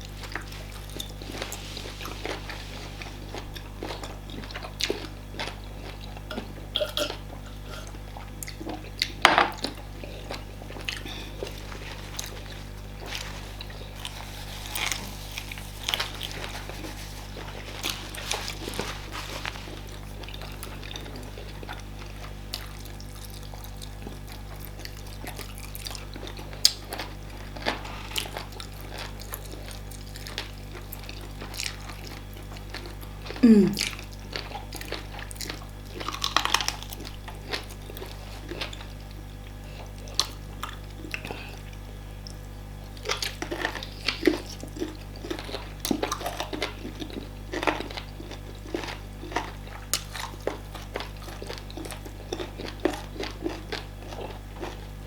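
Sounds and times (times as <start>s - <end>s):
steady low hum: 0.0s - 55.0s
wet chewing and mouth noises: 0.0s - 55.0s.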